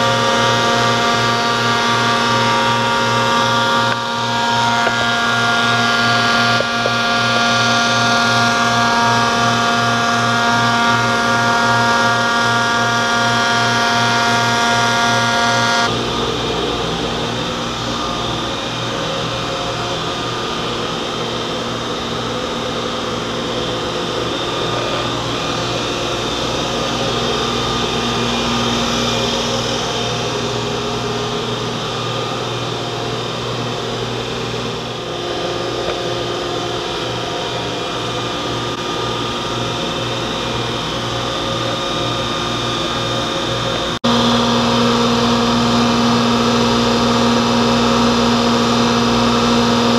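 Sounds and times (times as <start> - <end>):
woodshop machinery whirring hum: 0.0 - 49.9.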